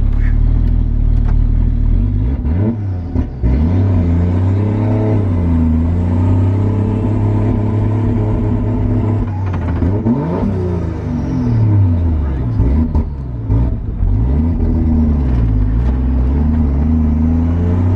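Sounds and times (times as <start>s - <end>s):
car engine running while driving: 0.0s - 17.9s.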